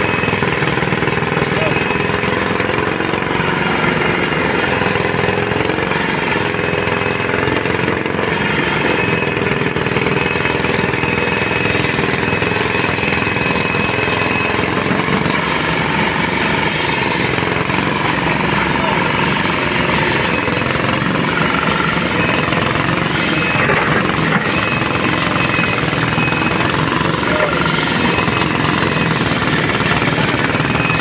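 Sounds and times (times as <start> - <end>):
construction machinery engine hum: 0.0 - 31.0.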